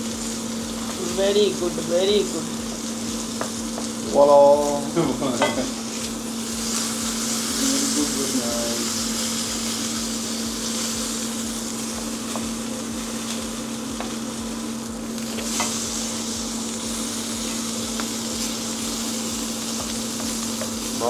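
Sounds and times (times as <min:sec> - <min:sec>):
food sizzling in a pan: 0:00.0 - 0:21.0
steady hum: 0:00.0 - 0:21.0.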